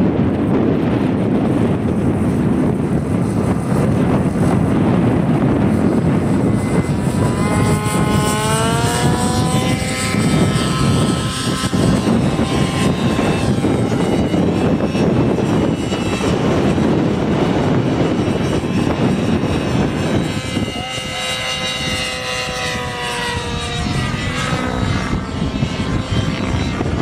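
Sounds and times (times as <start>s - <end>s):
model helicopter engine and rotor: 0.0s - 27.0s.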